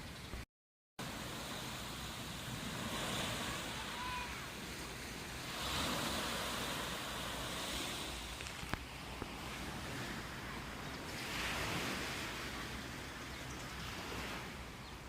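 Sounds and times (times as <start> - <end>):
sea waves washing onto beach: 1.0 - 15.0.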